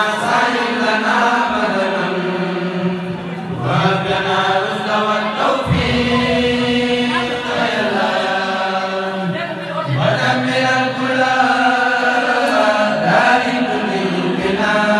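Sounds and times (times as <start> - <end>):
men chanting into microphones: 0.0 - 14.9.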